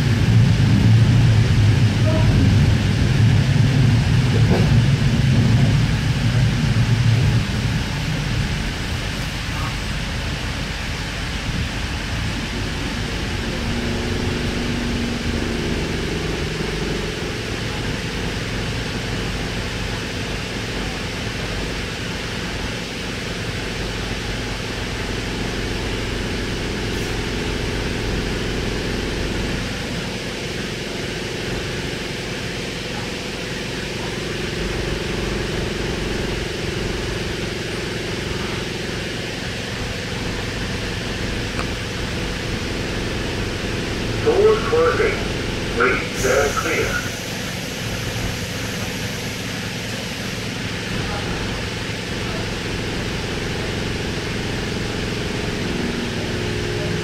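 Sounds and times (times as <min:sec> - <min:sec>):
train hiss and hum: 0:00.0 - 0:57.0
train rumble with whine: 0:00.0 - 0:57.0.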